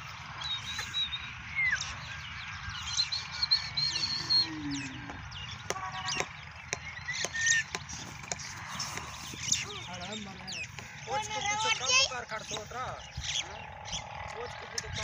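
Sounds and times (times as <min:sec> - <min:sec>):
small birds chirping and whistling: 0:00.0 - 0:15.0
steady low rumble: 0:00.0 - 0:15.0.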